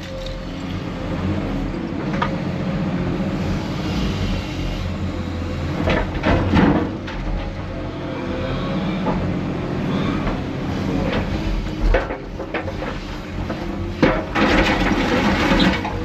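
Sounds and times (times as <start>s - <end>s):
diesel engines running: 0.0s - 16.0s.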